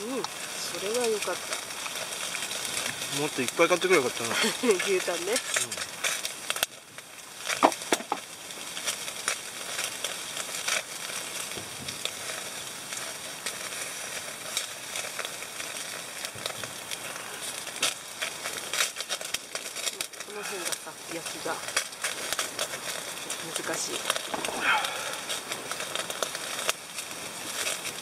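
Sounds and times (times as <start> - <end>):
fire crackling and popping: 0.0 - 28.0
meat sizzling on a grill: 0.0 - 28.0.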